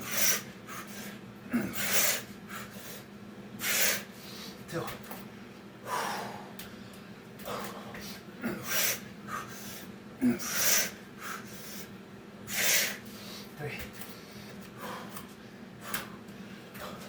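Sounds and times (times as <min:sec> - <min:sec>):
man breathing heavily: 0:00.0 - 0:17.0.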